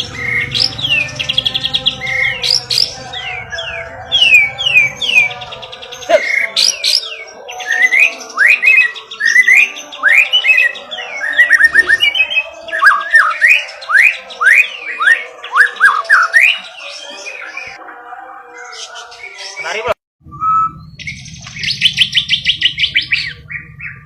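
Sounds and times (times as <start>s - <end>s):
bird singing whistles and trills: 0.0s - 17.8s, 20.3s - 24.0s.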